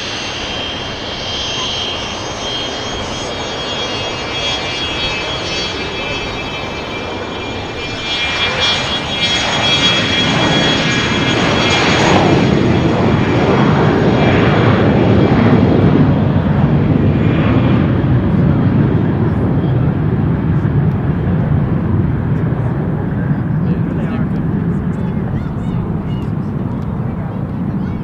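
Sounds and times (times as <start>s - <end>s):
jet engines buzzing whine and roar: 0.0s - 28.0s.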